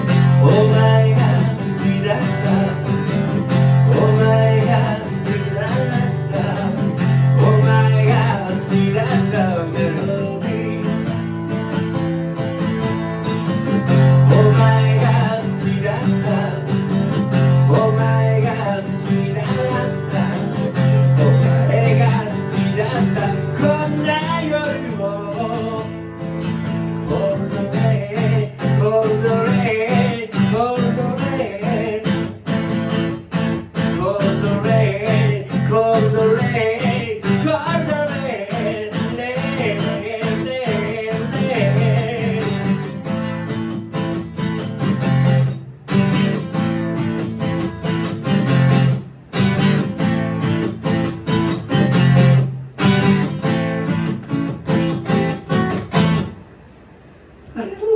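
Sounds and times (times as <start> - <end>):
strummed acoustic guitar: 0.0 - 57.9.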